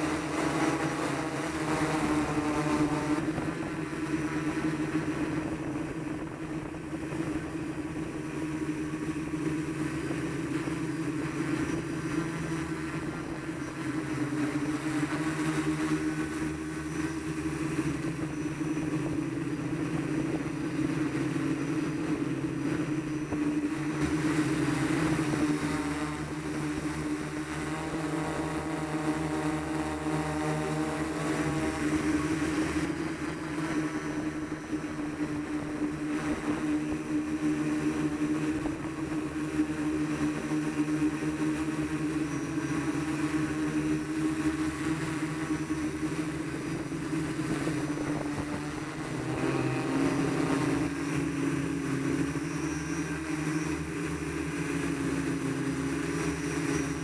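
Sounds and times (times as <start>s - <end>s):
drone motors and propellers humming: 0.0s - 57.0s.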